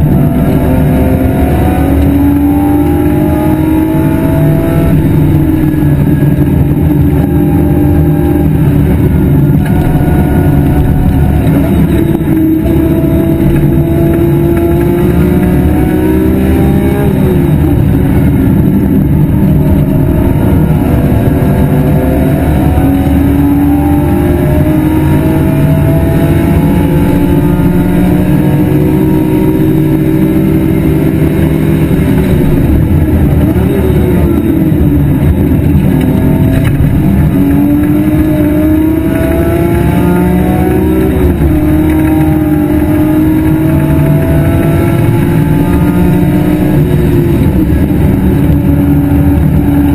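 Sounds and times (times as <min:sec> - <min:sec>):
race car engine running hard: 0:00.0 - 0:49.9.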